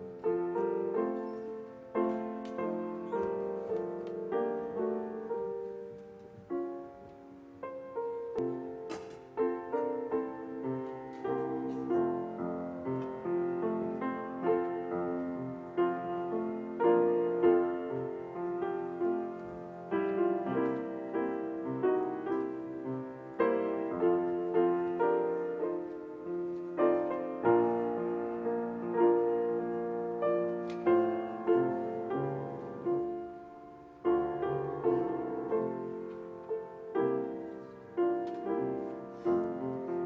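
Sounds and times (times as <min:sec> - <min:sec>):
solo piano music: 0:00.0 - 0:40.0.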